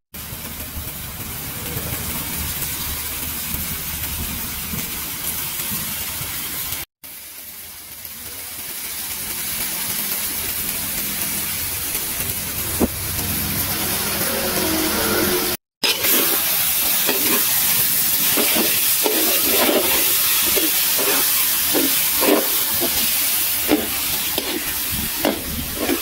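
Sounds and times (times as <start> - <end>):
eggplant sizzling in a wok: 0.2 - 26.0.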